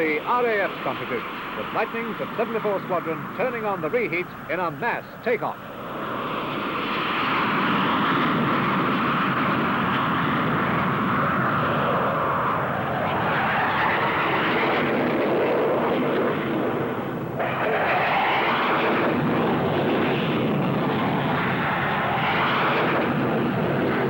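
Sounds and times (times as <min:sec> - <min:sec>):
jet roar: 0:00.0 - 0:24.0.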